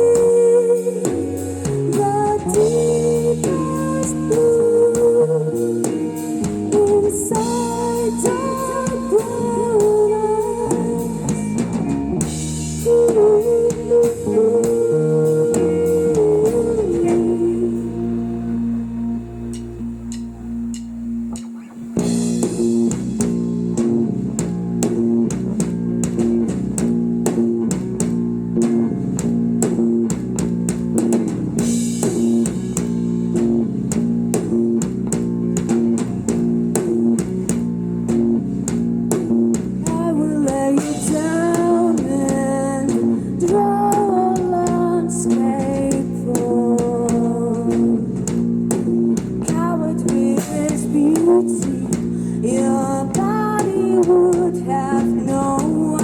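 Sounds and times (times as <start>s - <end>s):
bending lead guitar melody: 0.0s - 56.0s
rock band playing: 0.0s - 56.0s.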